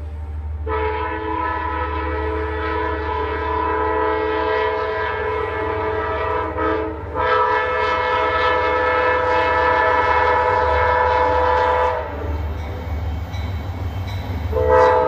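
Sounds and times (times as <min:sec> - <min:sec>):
train horn blasts: 0:00.6 - 0:12.6, 0:14.5 - 0:15.0.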